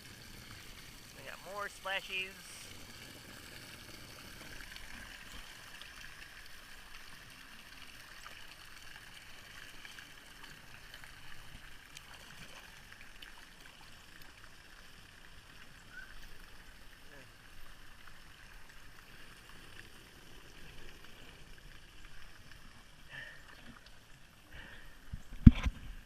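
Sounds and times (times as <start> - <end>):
water splashing from spray features: 0.0 - 26.0.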